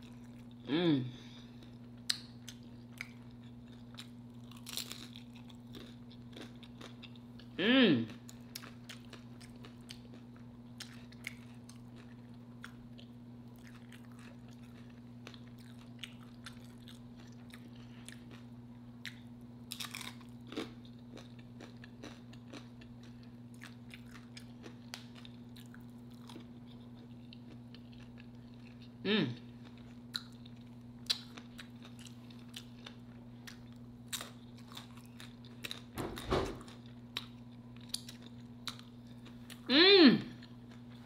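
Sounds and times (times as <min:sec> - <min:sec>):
chewing and crunching: 0:00.0 - 0:00.7, 0:01.3 - 0:36.0, 0:36.6 - 0:39.7
steady low hum: 0:00.0 - 0:41.0.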